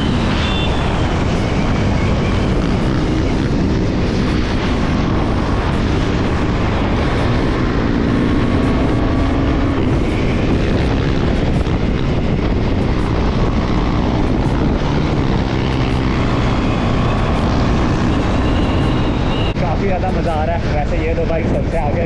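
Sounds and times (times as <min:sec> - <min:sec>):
motorcycle engine running hard: 0:00.0 - 0:22.0
wind noise: 0:00.0 - 0:22.0.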